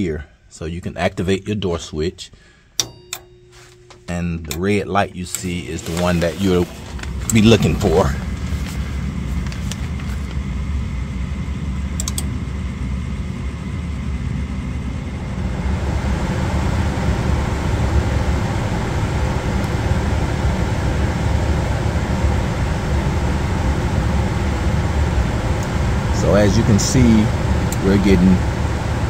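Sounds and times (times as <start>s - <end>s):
furnace fan hum: 0.0s - 29.0s.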